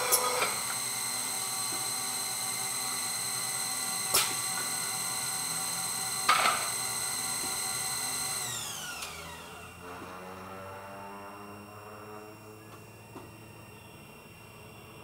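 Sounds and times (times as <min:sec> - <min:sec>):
machine whining: 0:00.0 - 0:15.0.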